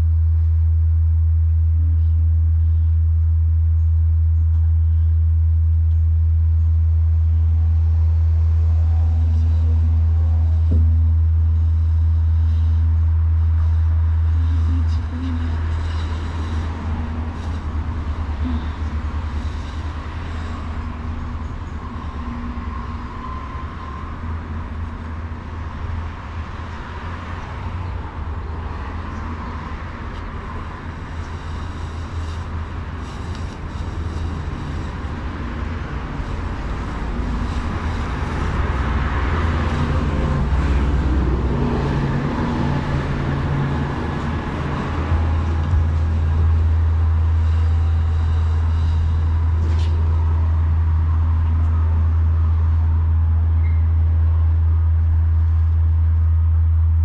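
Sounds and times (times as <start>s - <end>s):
road traffic rumble: 0.0s - 57.0s
vehicle passing: 7.0s - 57.0s.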